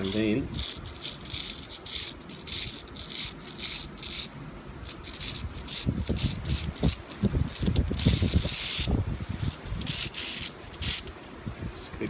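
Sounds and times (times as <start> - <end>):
wire scraping off coil: 0.0 - 11.3
wire rustling: 0.0 - 11.7.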